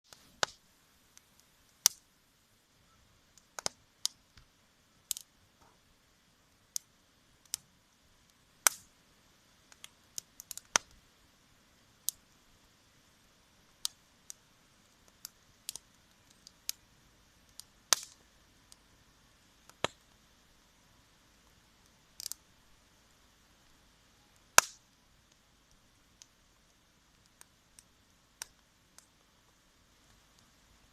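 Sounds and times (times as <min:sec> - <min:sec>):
campfire crackling: 0:00.1 - 0:30.9.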